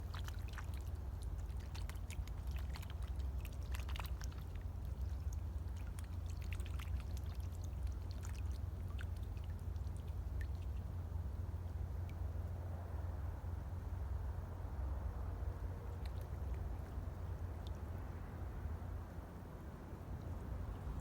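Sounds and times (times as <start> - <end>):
steady low rumble: 0.0 - 21.0
water trickling and dripping: 0.0 - 21.0.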